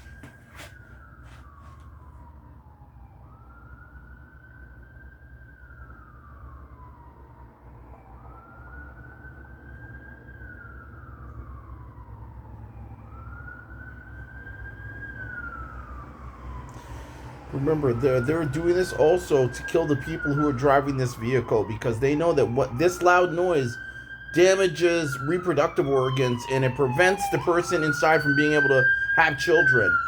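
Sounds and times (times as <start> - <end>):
emergency vehicle siren wailing: 0.0 - 30.0.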